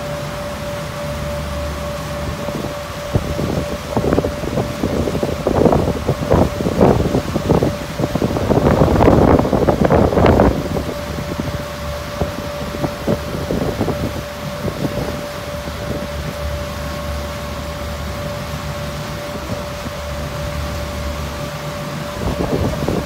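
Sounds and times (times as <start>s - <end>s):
boat engine droning: 0.0s - 23.0s
wind buffeting microphone: 2.0s - 23.0s.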